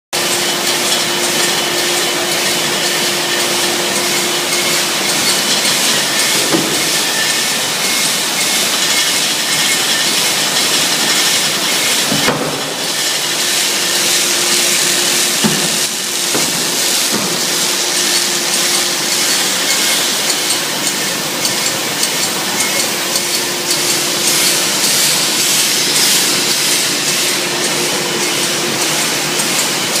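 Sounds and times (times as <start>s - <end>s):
machine hissing: 0.2s - 30.0s.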